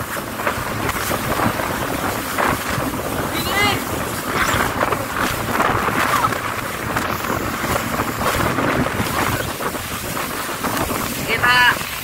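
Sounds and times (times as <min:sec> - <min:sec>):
jet ski engine: 0:00.0 - 0:12.0
water rushing and spraying: 0:00.0 - 0:12.0
wind buffeting microphone: 0:00.0 - 0:12.0.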